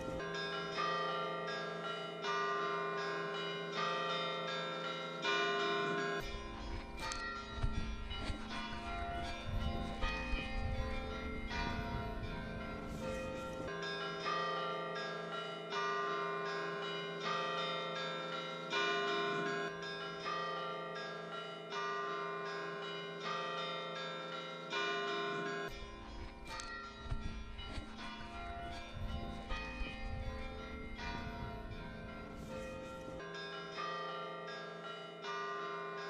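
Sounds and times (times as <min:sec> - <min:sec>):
church bells ringing: 0:00.0 - 0:36.0.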